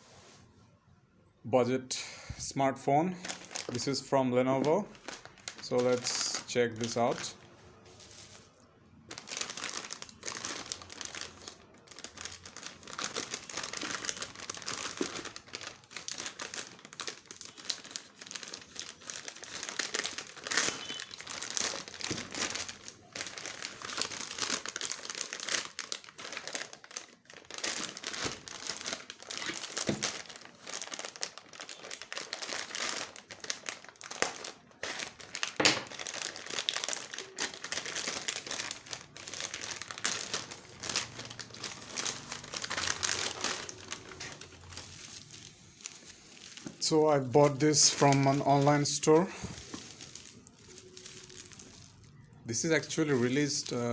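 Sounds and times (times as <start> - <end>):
packaging crinkling: 3.2 - 8.5, 9.1 - 53.9.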